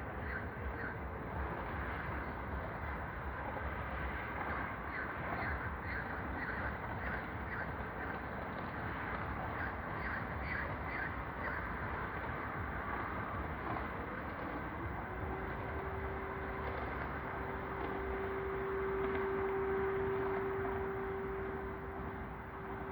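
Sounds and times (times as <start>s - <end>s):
low background rumble: 0.0s - 22.9s.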